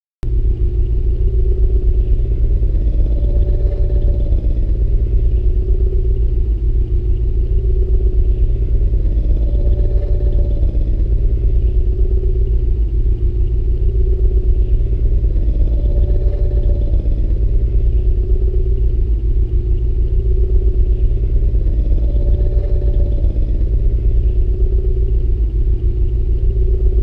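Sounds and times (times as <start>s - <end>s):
deep engine rumble with hum: 0.2s - 27.0s.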